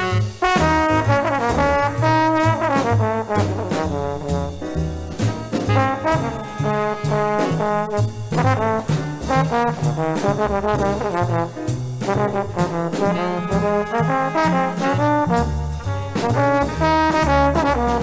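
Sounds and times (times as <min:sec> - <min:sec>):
drums on cymbals: 0:00.0 - 0:18.0
jazz trombone solo: 0:00.0 - 0:18.0
walking double bass: 0:00.0 - 0:18.0.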